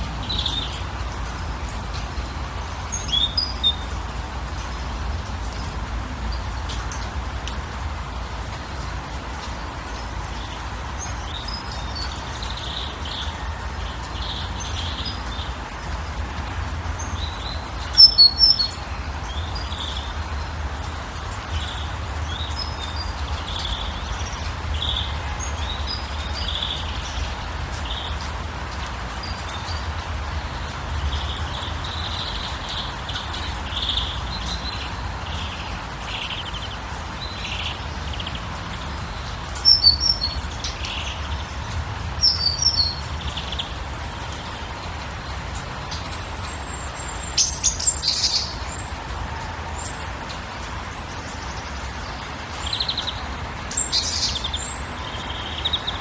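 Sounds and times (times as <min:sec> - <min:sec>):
birds chirping: 0:09.4 - 0:56.0.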